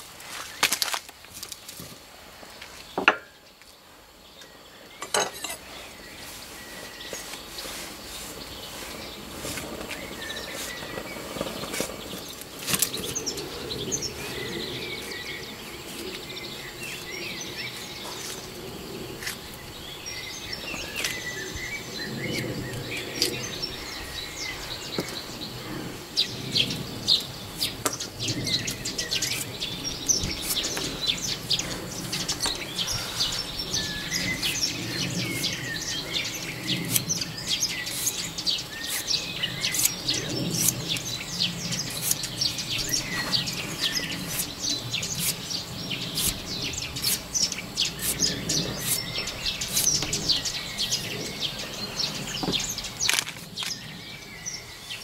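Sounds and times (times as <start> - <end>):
birds chirping and singing: 2.7 - 55.0.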